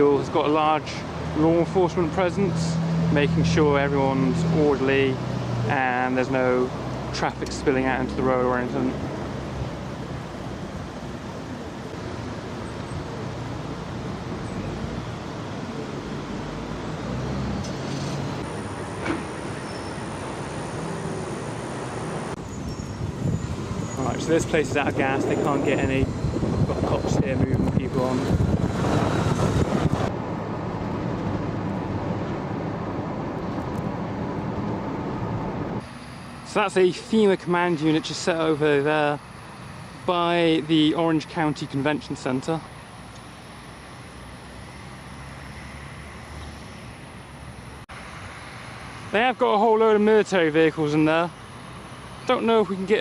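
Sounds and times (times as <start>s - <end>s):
road and wind noise: 0.0s - 53.0s.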